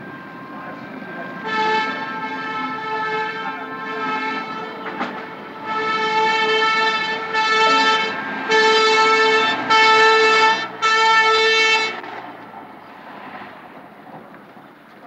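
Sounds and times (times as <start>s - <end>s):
horn blasts: 0.0s - 12.1s.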